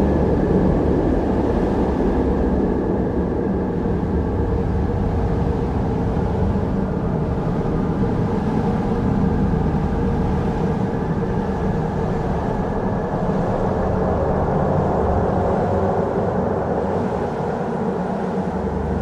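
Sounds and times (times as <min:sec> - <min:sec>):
wind rumbling: 0:00.0 - 0:19.0.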